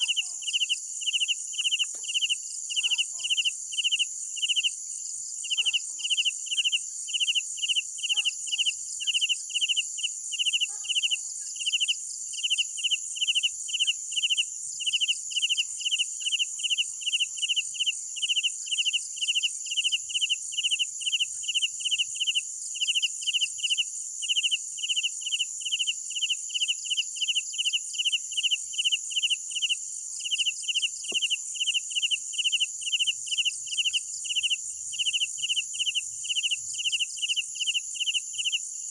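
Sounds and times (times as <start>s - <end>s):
crickets chirping: 0.0s - 38.9s
high-pitched insect trill: 0.0s - 38.9s.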